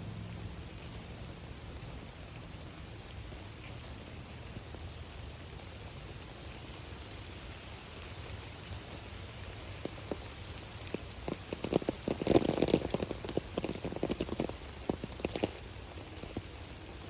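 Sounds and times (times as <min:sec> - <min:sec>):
raindrops hitting: 0:00.0 - 0:17.0
steady background hiss: 0:00.0 - 0:17.0.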